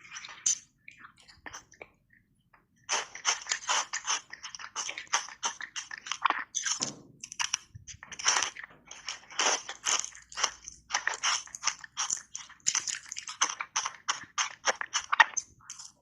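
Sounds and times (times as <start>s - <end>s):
ice crunching between teeth: 2.9s - 16.0s.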